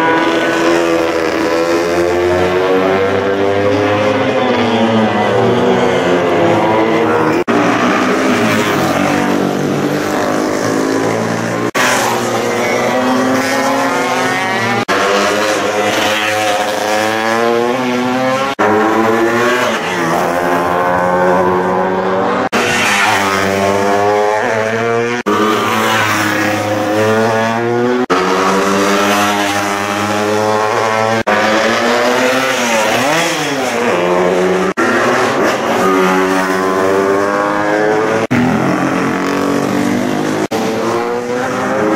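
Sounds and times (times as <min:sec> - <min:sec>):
racing motorcycle engines revving: 0:00.0 - 0:41.9.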